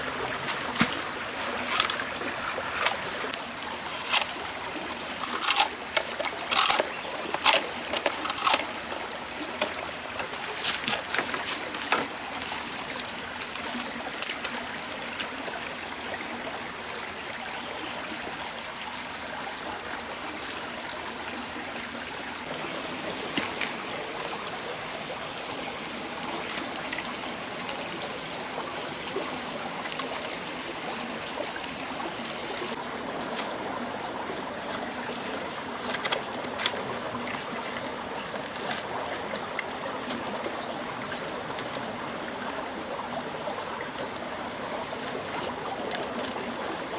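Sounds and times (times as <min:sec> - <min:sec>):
stream water flowing: 0:00.0 - 0:46.9.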